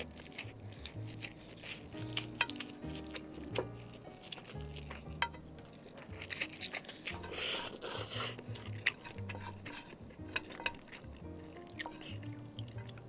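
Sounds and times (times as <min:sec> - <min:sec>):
person chewing noodles: 0:00.0 - 0:13.0.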